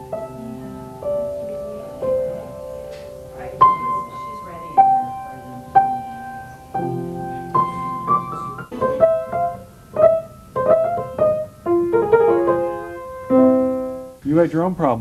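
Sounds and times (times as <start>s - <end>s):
grand piano played slowly: 0.0s - 14.2s.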